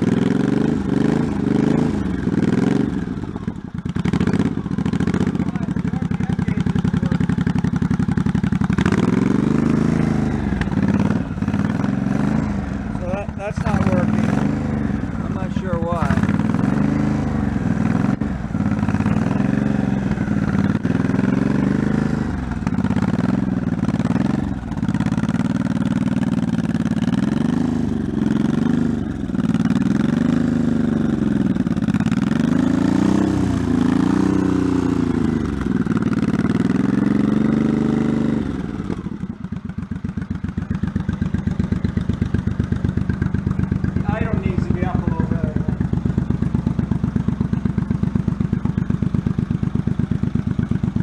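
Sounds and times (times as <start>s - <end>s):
motorcycle engine revving and idling: 0.0s - 51.0s.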